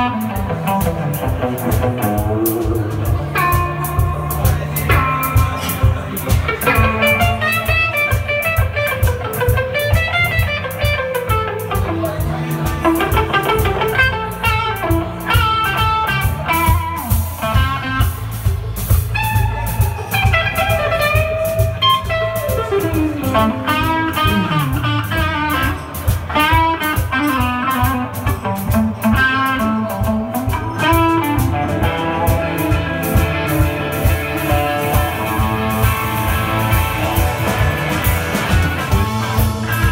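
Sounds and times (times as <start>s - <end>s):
bass: 0.0s - 39.9s
drum kit groove: 0.0s - 39.9s
electric guitar lead: 0.0s - 39.9s.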